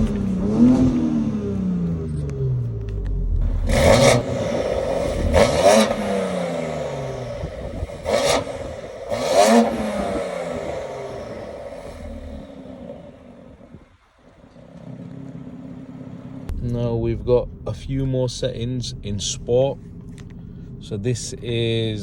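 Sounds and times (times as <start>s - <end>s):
car engine revving from idle: 0.0s - 22.0s.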